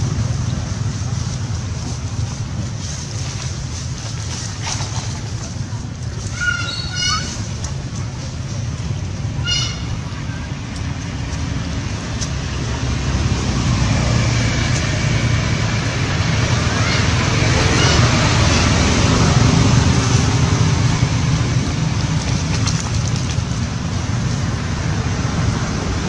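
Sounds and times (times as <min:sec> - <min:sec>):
loud rumbling noise: 0:00.0 - 0:26.0.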